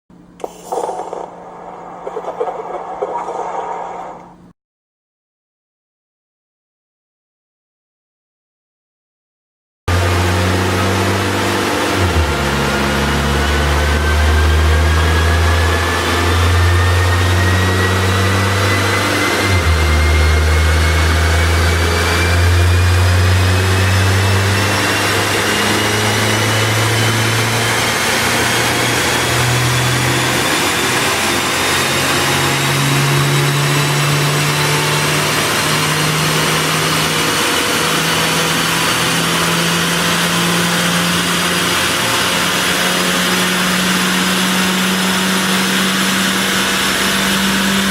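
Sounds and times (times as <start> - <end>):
high whine of drivetrain and rollers: 0.1 - 4.5, 9.9 - 47.9.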